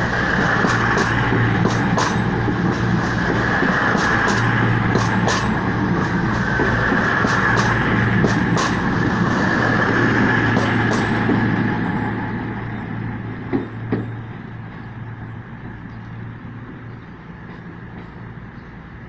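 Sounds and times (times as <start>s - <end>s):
train hum: 0.0s - 19.0s.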